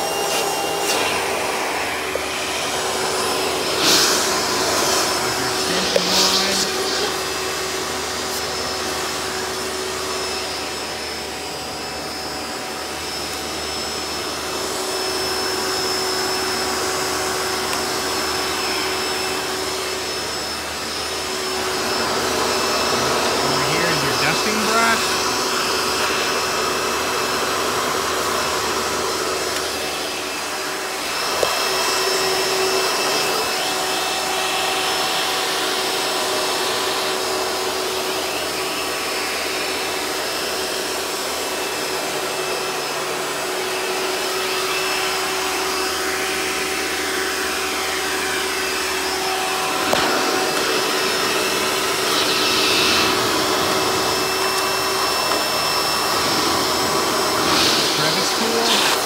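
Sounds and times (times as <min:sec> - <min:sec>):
vacuum cleaner motor humming: 0:00.0 - 0:59.0.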